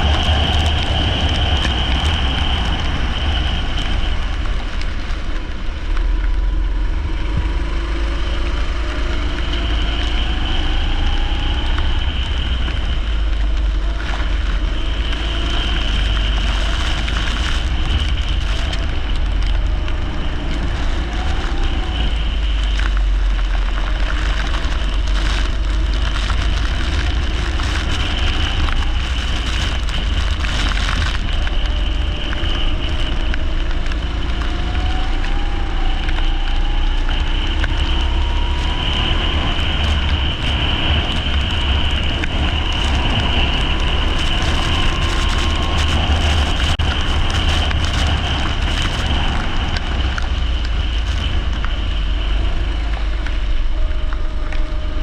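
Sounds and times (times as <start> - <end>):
heavy low rumble: 0.0 - 55.0
kart engine racing: 0.0 - 55.0.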